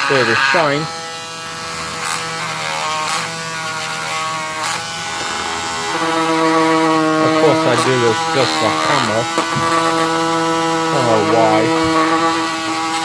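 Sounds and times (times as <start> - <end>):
rotary tool motor whine: 0.0 - 13.0.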